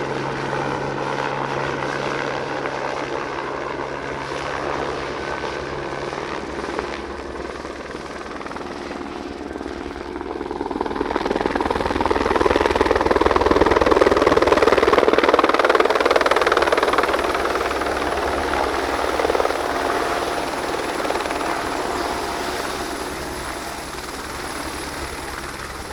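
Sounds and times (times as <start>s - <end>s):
helicopter rotor beating: 0.0s - 25.9s.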